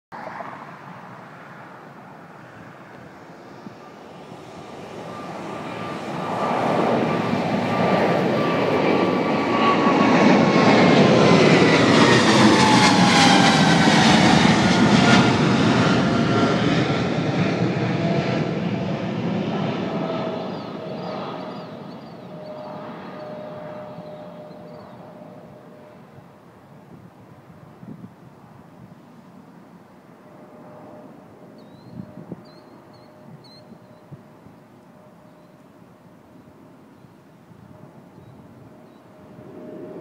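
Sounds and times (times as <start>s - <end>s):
jet engines passing by: 0.2s - 40.0s.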